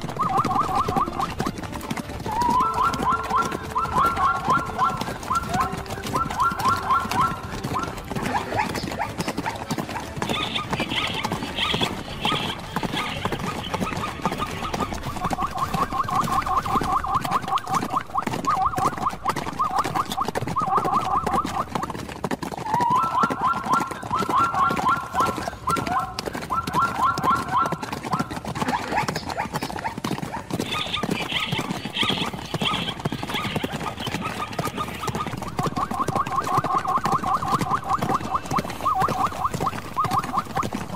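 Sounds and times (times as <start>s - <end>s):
zebra barking calls: 0.0s - 1.6s, 2.3s - 21.9s, 22.8s - 30.0s, 30.6s - 40.9s
hooves thudding and scuffling: 0.0s - 40.9s.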